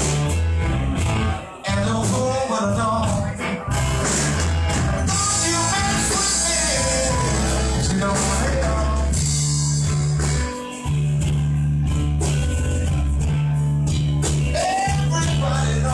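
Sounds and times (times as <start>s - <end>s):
blues band playing: 0.0s - 15.9s
guitar: 0.0s - 15.9s
sustained bass notes: 0.0s - 15.9s.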